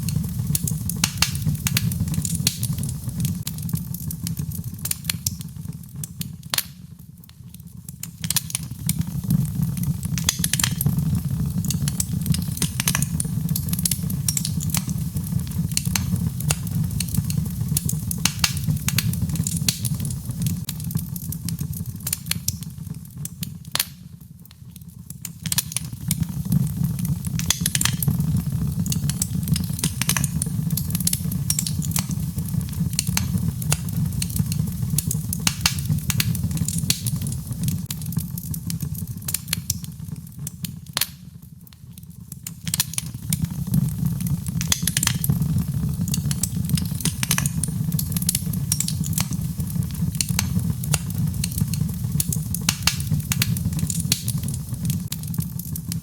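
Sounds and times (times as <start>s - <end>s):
logs crackling in fireplace: 0.0s - 56.0s.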